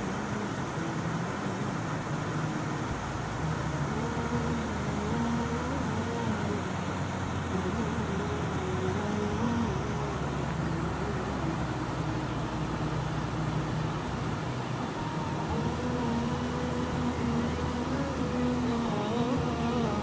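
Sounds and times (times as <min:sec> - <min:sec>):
vehicle engine and road hum: 0:00.0 - 0:20.0.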